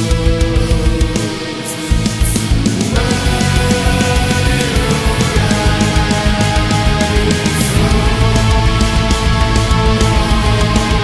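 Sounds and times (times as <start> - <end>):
distorted guitars: 0.0 - 11.0
fast dense drumming: 1.9 - 11.0.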